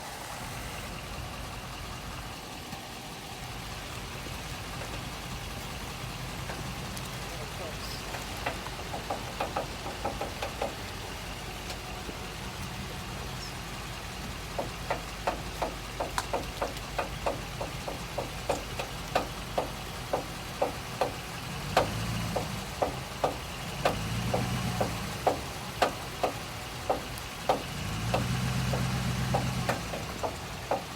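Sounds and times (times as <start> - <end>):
truck engine hum: 0.0 - 30.9
rhythmic clicking from a wheel: 1.0 - 30.9.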